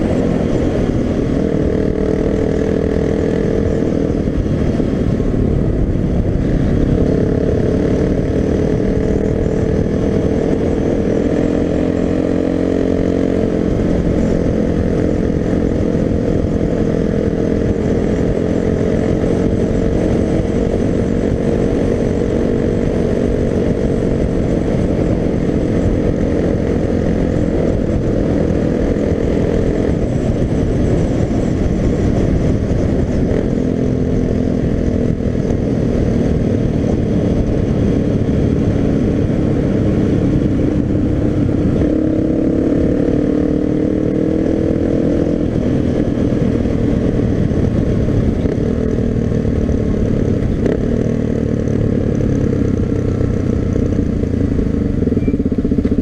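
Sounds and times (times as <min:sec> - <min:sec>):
motorcycle engine cruising: 0:00.0 - 0:56.0
wind noise on microphone: 0:00.0 - 0:56.0.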